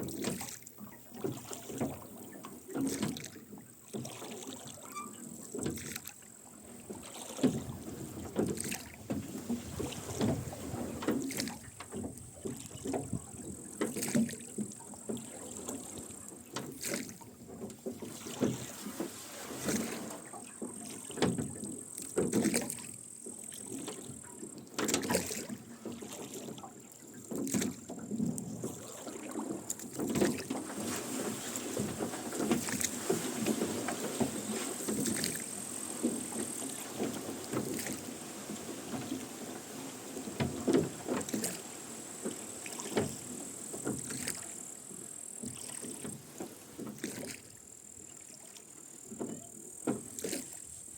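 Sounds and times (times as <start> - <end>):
oars splashing: 0.0 - 50.9.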